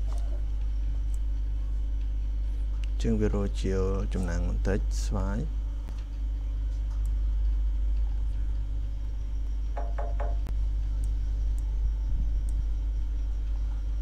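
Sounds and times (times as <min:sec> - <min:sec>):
low rumble and hum: 0:00.0 - 0:14.0.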